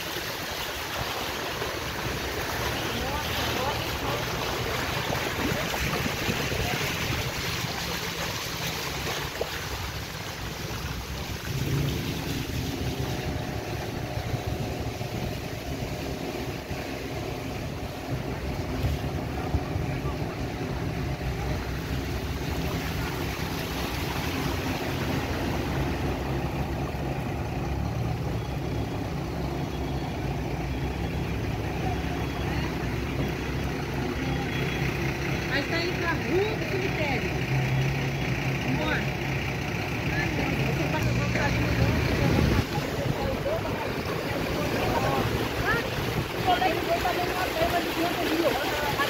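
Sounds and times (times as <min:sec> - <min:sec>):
engine humming: 0:00.0 - 0:49.0.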